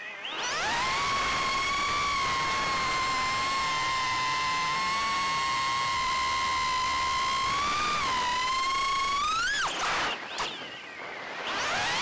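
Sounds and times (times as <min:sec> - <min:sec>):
quadcopter motors whining: 0:00.2 - 0:10.6, 0:11.3 - 0:12.0.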